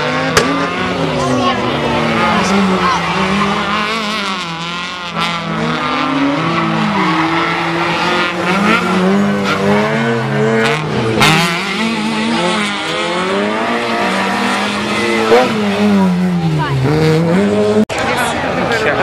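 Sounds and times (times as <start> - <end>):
rally car engines revving high: 0.0 - 19.0.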